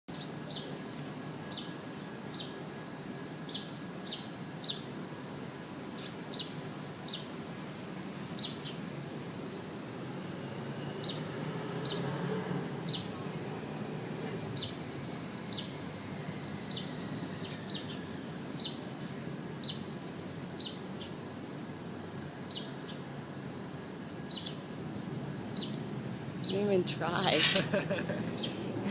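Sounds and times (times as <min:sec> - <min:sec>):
sparrows chirping: 0:00.1 - 0:02.8, 0:03.4 - 0:07.5, 0:08.1 - 0:21.3, 0:22.3 - 0:28.6.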